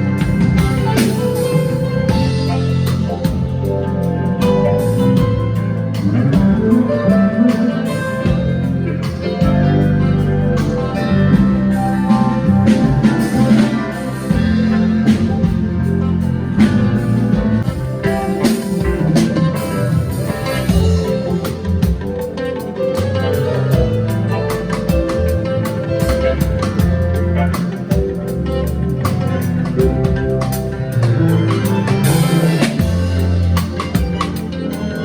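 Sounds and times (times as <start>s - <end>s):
drum strokes: 0.0s - 35.0s
guitar: 0.0s - 35.0s
low bass line: 0.0s - 35.0s.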